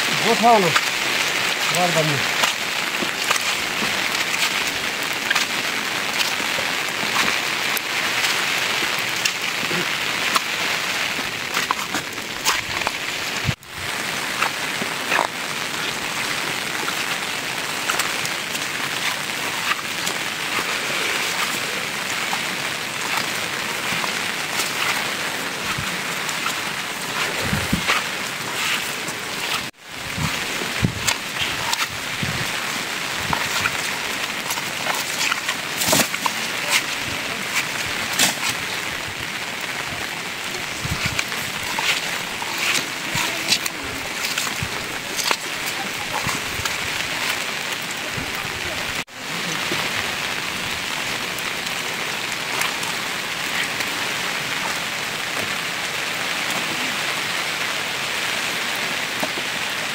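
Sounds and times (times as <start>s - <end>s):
raindrops ticking close by: 0.0s - 59.9s
steady rain falling: 0.0s - 59.9s.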